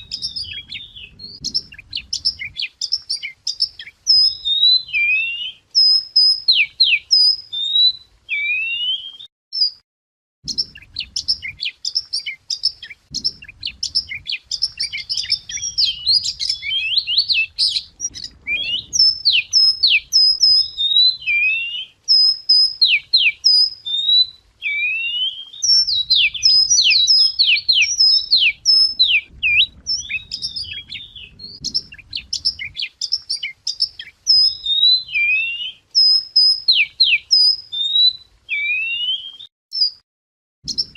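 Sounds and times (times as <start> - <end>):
songbird singing: 0.0 - 9.8, 10.4 - 40.0, 40.6 - 40.9.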